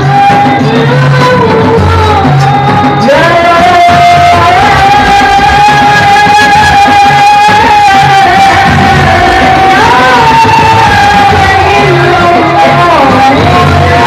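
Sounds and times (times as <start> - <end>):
drum accompaniment: 0.0 - 14.0
person singing long notes: 0.0 - 14.0.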